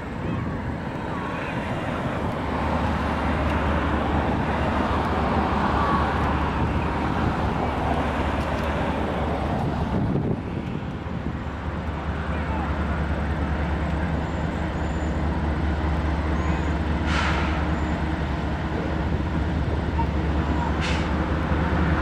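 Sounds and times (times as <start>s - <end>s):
diesel locomotive engine drone: 0.0s - 22.0s
rushing noise: 0.0s - 22.0s.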